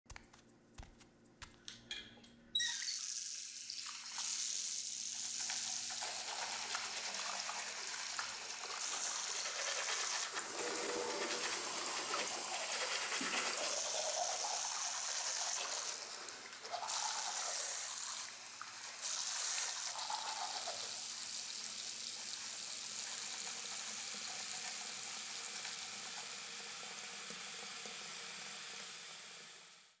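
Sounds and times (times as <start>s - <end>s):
tap water running: 2.6s - 29.8s.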